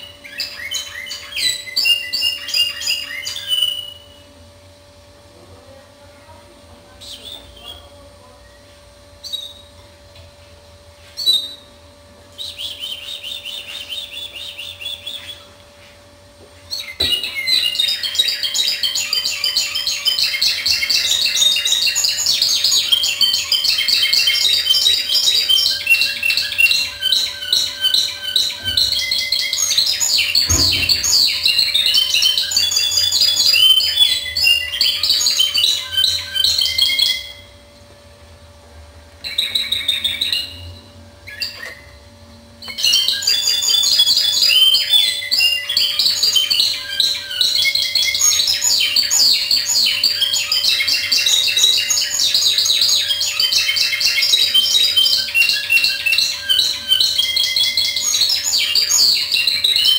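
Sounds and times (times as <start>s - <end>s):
canary singing: 0.0s - 4.3s, 6.8s - 9.8s, 11.1s - 15.6s, 16.6s - 37.9s, 39.2s - 59.9s.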